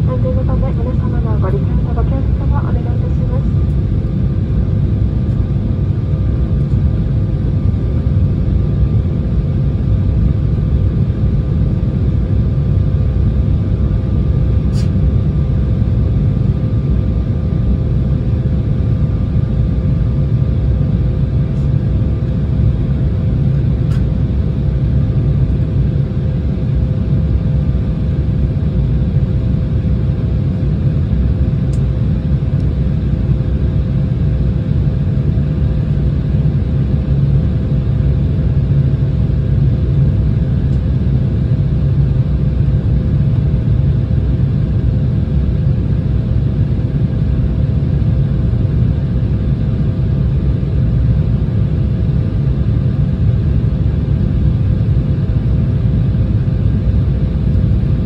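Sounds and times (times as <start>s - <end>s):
faint steady hums: 0.0s - 58.0s
jet cabin engine rumble: 0.0s - 58.0s.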